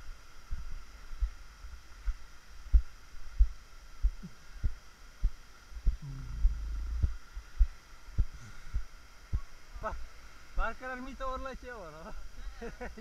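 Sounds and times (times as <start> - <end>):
faint surf: 0.0 - 13.0.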